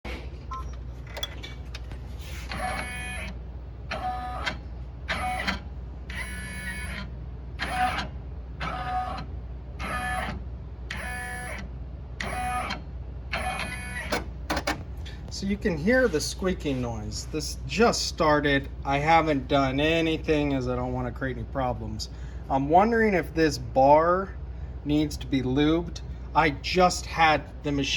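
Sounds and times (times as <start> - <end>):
low machine hum: 0.0 - 27.9.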